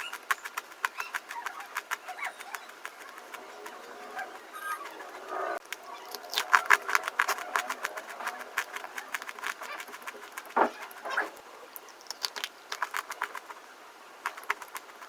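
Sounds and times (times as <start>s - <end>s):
fast crisp crunching: 0.0s - 15.0s.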